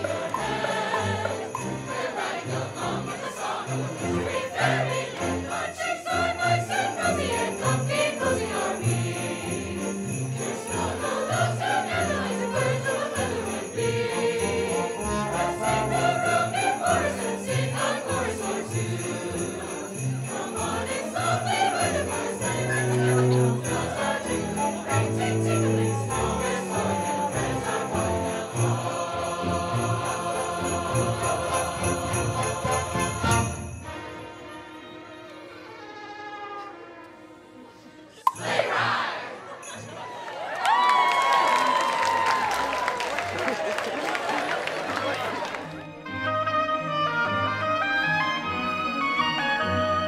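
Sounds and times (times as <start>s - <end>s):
sleigh bells jingling: 0.0s - 35.3s, 38.3s - 44.6s.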